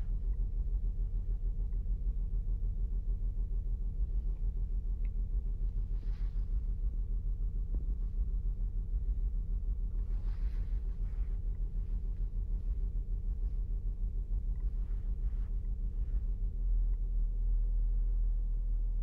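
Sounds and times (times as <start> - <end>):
car engine uneven rumble: 0.0 - 19.0.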